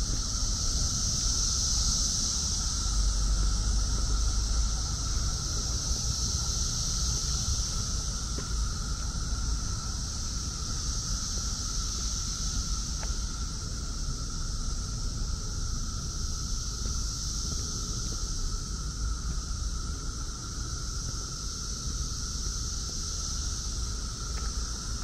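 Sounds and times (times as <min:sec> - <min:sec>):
cicadas droning: 0:00.0 - 0:25.0
wind rumble on microphone: 0:00.0 - 0:25.0.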